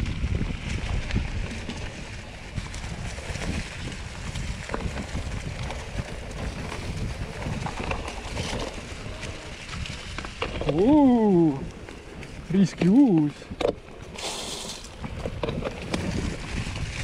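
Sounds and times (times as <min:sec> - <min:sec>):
bike clicks and rattles: 0:00.0 - 0:17.0
tyres rumbling over dirt trail: 0:00.0 - 0:17.0
wind on microphone: 0:00.0 - 0:17.0.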